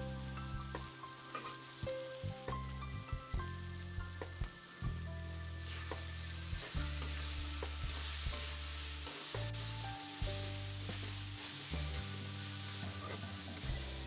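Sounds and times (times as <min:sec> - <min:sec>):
background music: 0:00.0 - 0:14.0
food sizzling in hot oil: 0:00.0 - 0:14.0.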